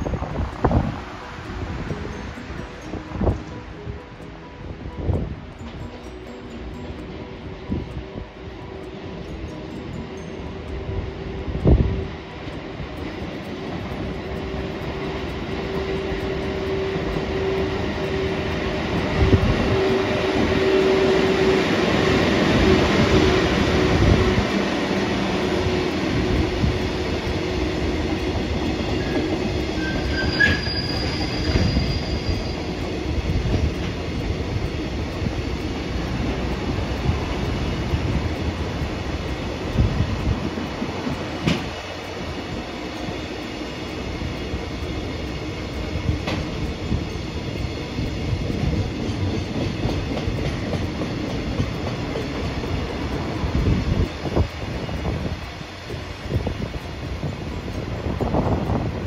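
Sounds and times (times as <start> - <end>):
steady tone: 0.0 - 58.8
train running on rails: 0.0 - 59.0.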